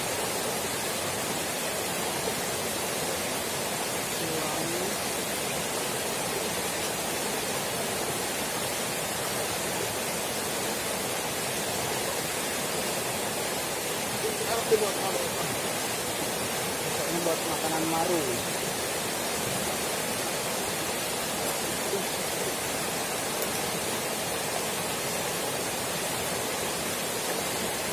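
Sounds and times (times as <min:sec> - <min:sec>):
stream rushing over stones: 0:00.0 - 0:27.9.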